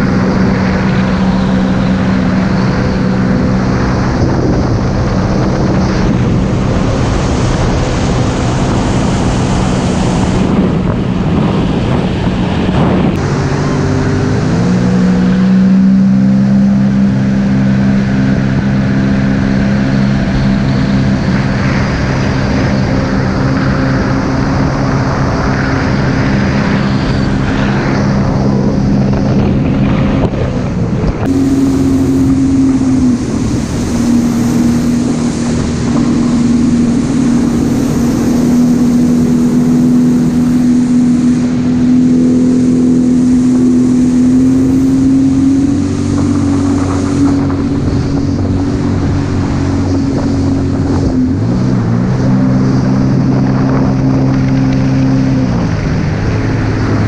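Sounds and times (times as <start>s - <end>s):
jet ski engine droning: 0.0s - 57.0s
wind on microphone: 0.0s - 57.0s.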